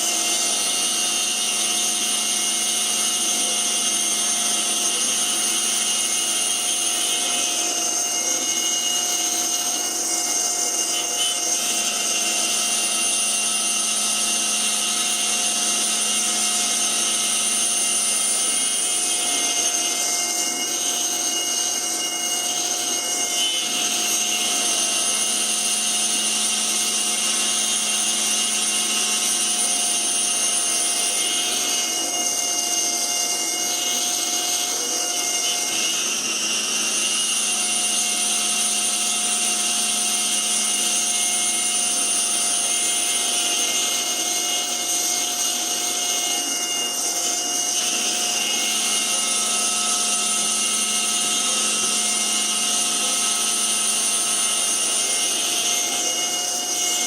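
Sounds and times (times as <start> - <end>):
cnc mill spindle whining: 0.0 - 57.0.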